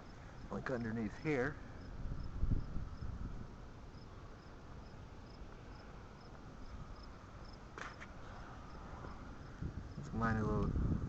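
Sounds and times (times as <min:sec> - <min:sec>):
insect chirping: 0:00.0 - 0:10.3.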